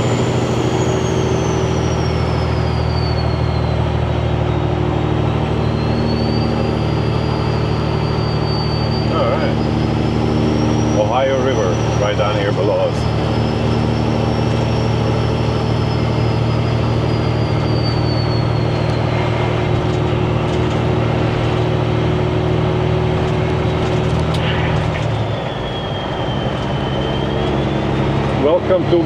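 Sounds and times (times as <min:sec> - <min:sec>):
turbo whistle: 0:00.0 - 0:20.5, 0:22.9 - 0:29.0
diesel truck engine running: 0:00.0 - 0:29.0.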